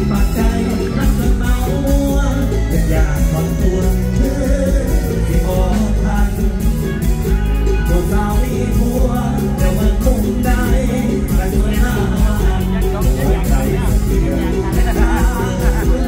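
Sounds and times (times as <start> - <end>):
drums beating: 0.0 - 16.0
live band over loudspeakers: 0.0 - 16.0
man singing: 0.0 - 16.0.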